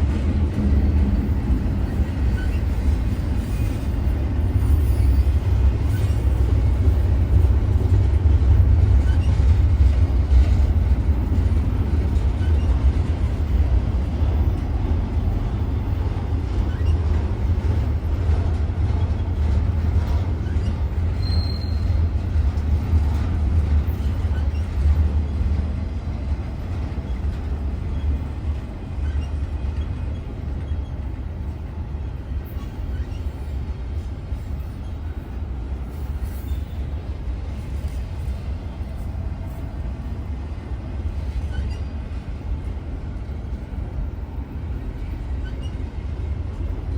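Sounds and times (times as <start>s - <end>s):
freight train rolling by: 0.0s - 46.9s.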